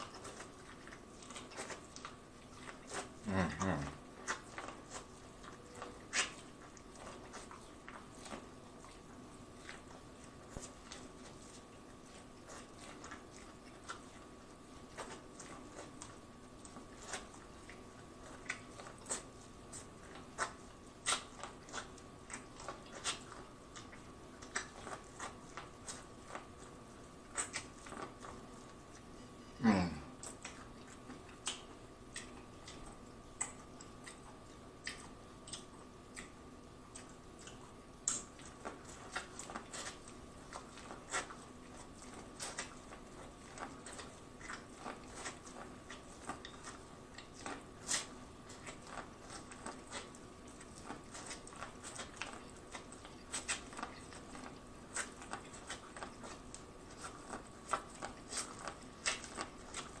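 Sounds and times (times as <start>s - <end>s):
eating corn on the cob: 0.0s - 60.0s
faint steady hum: 0.0s - 60.0s.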